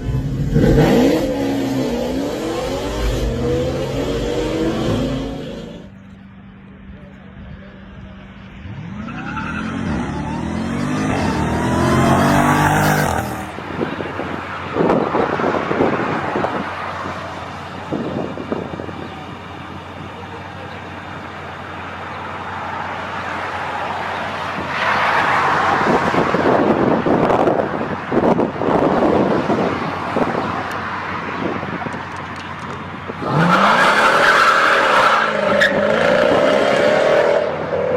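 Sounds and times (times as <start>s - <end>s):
rushing wind: 0.0s - 5.9s, 8.0s - 19.6s, 22.7s - 37.9s
car engine accelerating hard: 0.0s - 6.0s, 8.4s - 37.9s
road noise with bumps: 0.0s - 37.9s.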